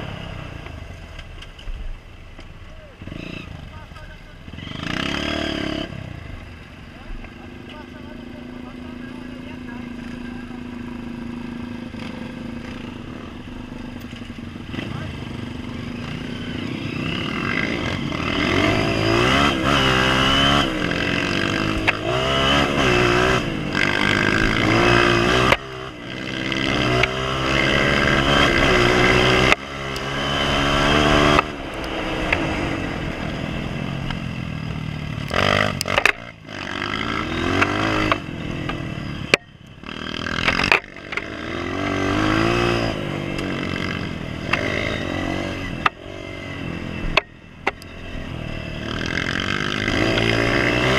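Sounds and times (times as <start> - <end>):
motorbike engine revving: 2.7 - 50.9.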